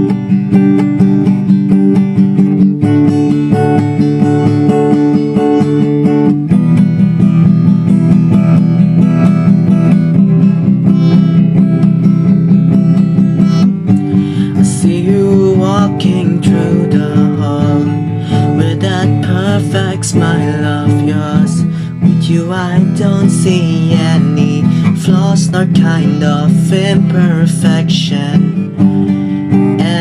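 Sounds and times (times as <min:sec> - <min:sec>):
acoustic guitar chords: 0:00.0 - 0:30.0.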